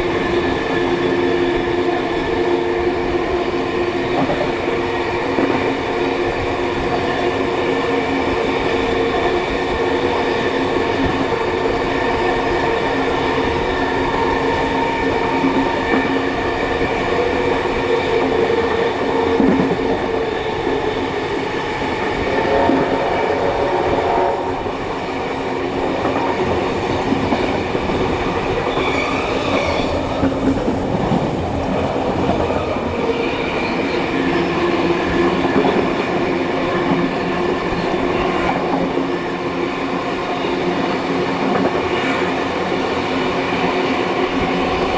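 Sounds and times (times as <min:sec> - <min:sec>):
clickety-clack of train wheels: 0:00.0 - 0:44.9
train wheels rumbling on rail: 0:00.0 - 0:44.9.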